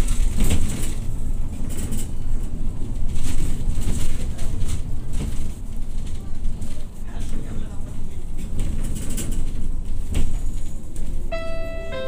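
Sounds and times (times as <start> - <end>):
body clicks and rattles: 0.0 - 11.2
bus engine and road rumble: 0.0 - 12.0.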